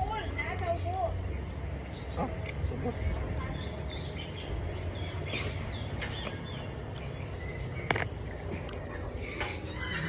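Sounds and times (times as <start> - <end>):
birds chirping: 0.0 - 10.0
low outdoor rumble: 0.0 - 10.0.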